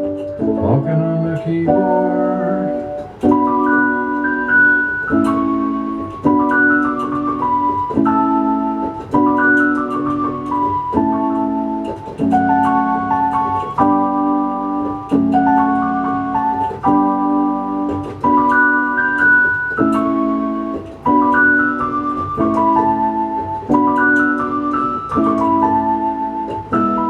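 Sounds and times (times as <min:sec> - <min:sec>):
organ-like electronic keyboard: 0:00.0 - 0:27.0.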